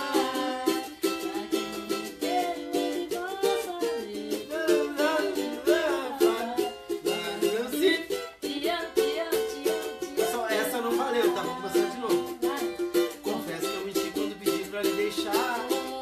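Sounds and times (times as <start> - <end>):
person singing wordless melody: 0.0 - 16.0
small plucked string instrument strumming: 0.0 - 16.0.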